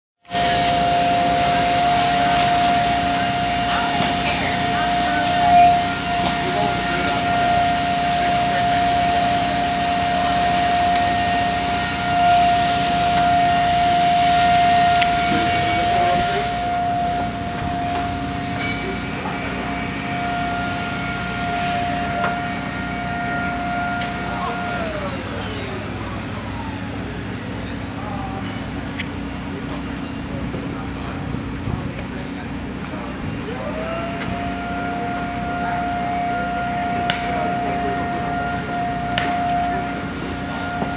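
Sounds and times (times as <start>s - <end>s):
construction machinery whine and hum: 0.2s - 40.9s.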